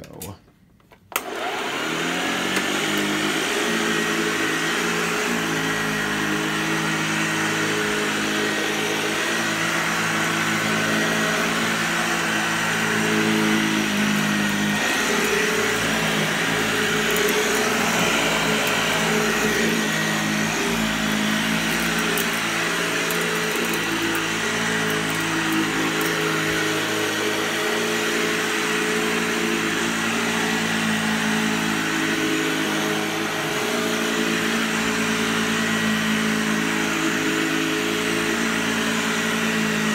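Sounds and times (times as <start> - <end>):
vacuum cleaner running: 1.1 - 39.9.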